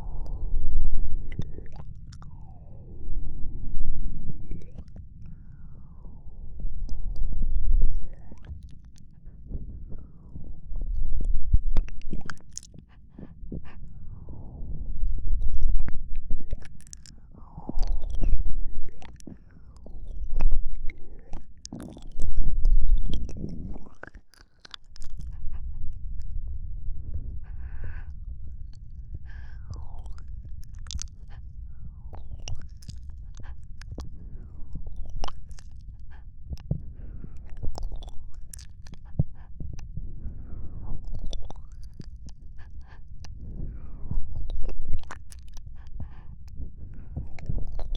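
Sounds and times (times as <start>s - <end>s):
soft breaths into microphone: 0.0s - 47.9s
steady low rumble: 0.0s - 47.9s
wet tongue and lip clicks: 0.1s - 2.7s, 4.4s - 5.7s, 6.8s - 10.1s, 10.8s - 14.0s, 15.0s - 26.4s, 27.4s - 47.9s.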